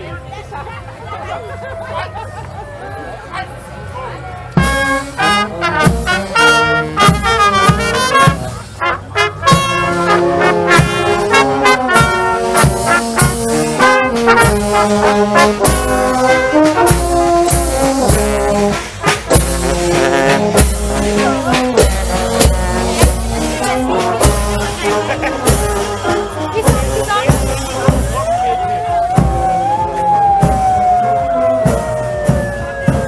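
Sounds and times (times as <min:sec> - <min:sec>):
steady drum beat: 0:04.6 - 0:33.0
trombones and trumpets playing: 0:04.6 - 0:33.0.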